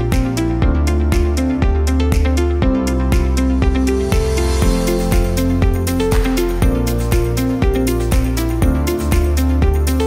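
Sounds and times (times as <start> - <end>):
electronic music with synth: 0.0 - 10.0.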